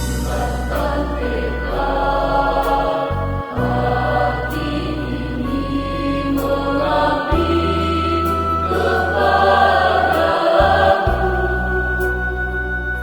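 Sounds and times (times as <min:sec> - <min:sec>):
choir singing a hymn: 0:00.0 - 0:13.0
instrumental accompaniment: 0:00.0 - 0:13.0.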